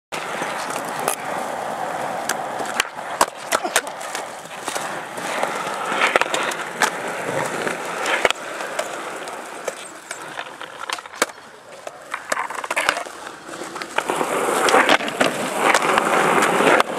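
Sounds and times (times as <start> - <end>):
skateboard clacking on ground: 0.1 - 16.9
skateboard wheels rolling on concrete: 0.1 - 16.9.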